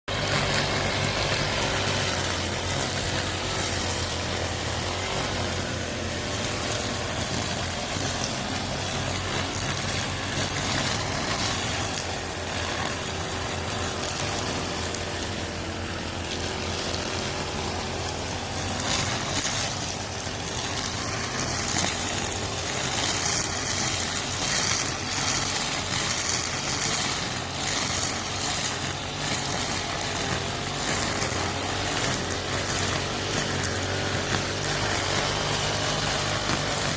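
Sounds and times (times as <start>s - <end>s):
brush cutter engine running: 0.1s - 36.9s.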